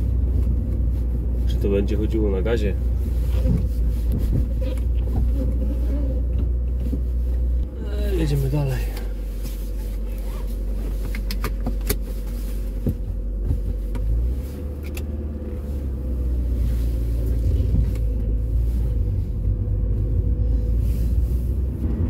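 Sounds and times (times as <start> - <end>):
car engine rumble: 0.0 - 22.0
road noise inside car: 0.0 - 22.0.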